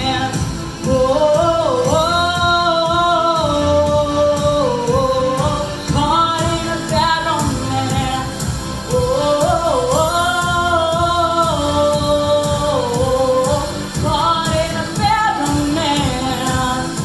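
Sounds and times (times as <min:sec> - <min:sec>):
backing track with steady beat: 0:00.0 - 0:17.0
woman singing into a microphone: 0:00.0 - 0:17.0.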